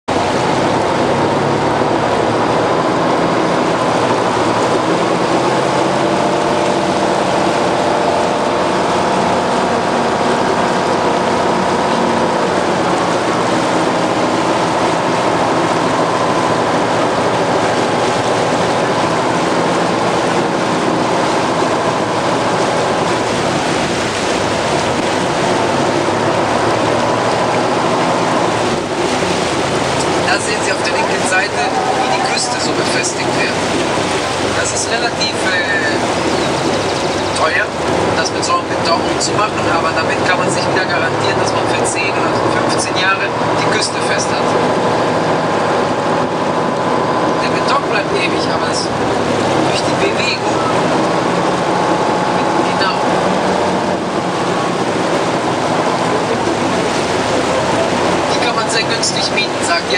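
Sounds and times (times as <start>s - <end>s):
motorboat engine humming: 0.0s - 59.9s
water rushing past hull: 0.0s - 59.9s.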